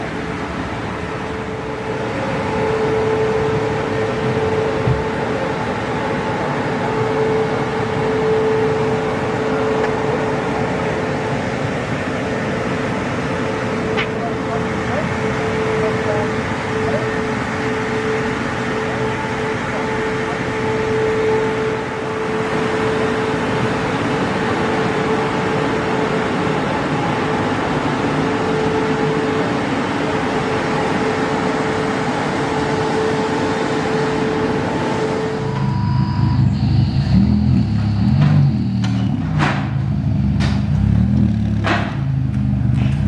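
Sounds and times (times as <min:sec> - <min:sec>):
mechanical hum: 0:00.0 - 0:43.0
mid-pitched whine: 0:00.0 - 0:43.0.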